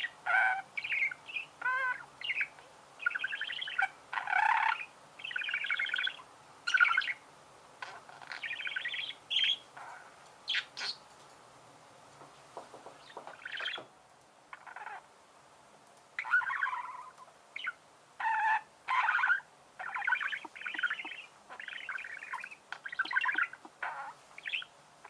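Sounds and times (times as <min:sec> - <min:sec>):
budgerigars chirping and warbling: 0:00.0 - 0:07.2, 0:07.8 - 0:11.0, 0:13.0 - 0:13.9, 0:14.5 - 0:15.0, 0:16.2 - 0:24.7.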